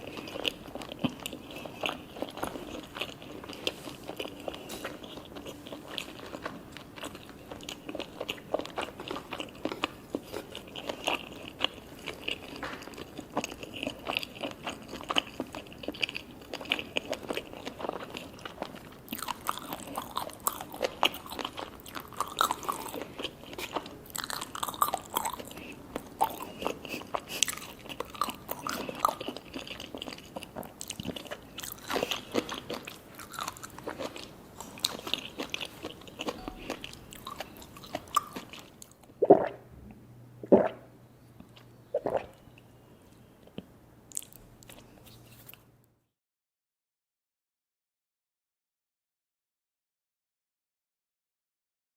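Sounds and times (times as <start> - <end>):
close chewing and crunching: 0.0 - 39.5, 43.4 - 45.6.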